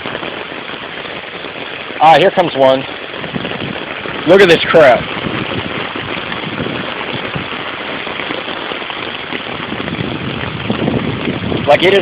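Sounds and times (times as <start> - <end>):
car engine in floodwater: 0.0 - 12.0
heavy rain falling: 0.0 - 12.0.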